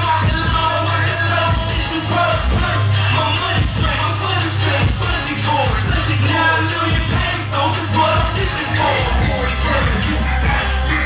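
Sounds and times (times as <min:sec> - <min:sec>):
hip hop music with heavy bass: 0:00.0 - 0:11.0.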